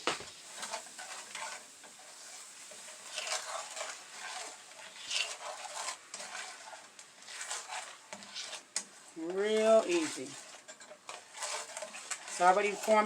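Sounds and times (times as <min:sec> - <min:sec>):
sauce sizzling: 0:00.0 - 0:13.0
spoon scraping a pan: 0:00.0 - 0:13.0.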